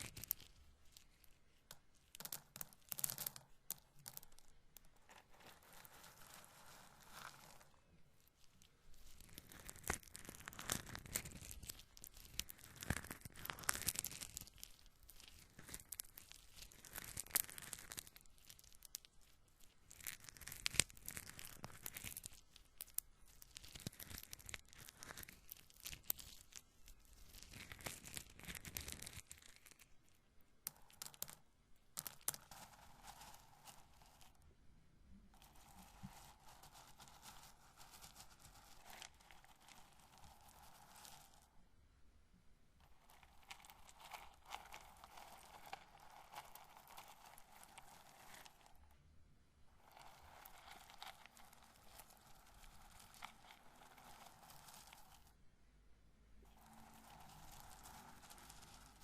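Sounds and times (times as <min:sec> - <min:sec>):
corn kernels crackling and rustling: 0:00.0 - 0:30.0, 0:30.6 - 0:34.4, 0:35.3 - 0:41.5, 0:42.8 - 0:49.0, 0:49.7 - 0:55.4, 0:56.4 - 0:59.0.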